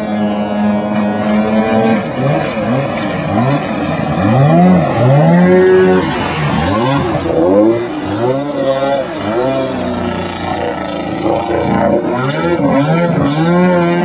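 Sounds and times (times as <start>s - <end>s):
jet ski engine revving: 0.0s - 14.0s.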